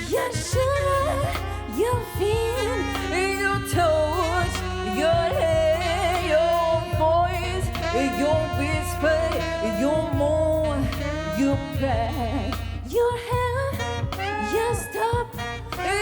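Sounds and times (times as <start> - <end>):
pop-soul song: 0.0 - 16.0
steady bass line: 0.0 - 16.0.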